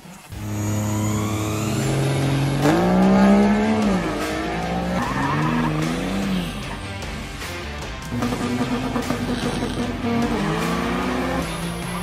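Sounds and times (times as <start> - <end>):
diesel engine revving: 0.3 - 7.0, 8.0 - 12.0.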